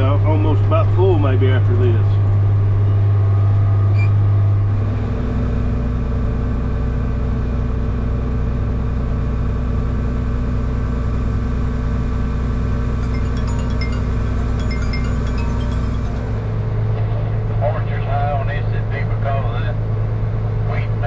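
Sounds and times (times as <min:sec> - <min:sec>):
tractor engine droning: 0:00.0 - 0:18.8.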